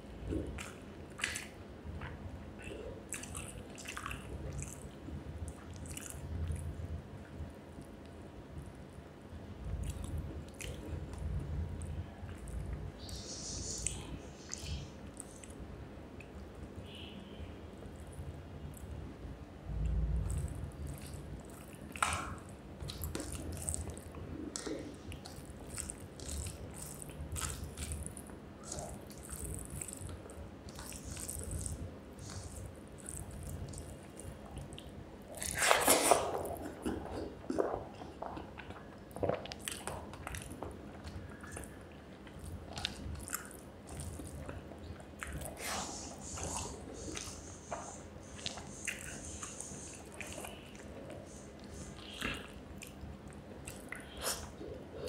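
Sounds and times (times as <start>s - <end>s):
wet chewing and mouth clicks: 0.3s - 6.7s, 9.7s - 15.6s, 19.8s - 55.0s.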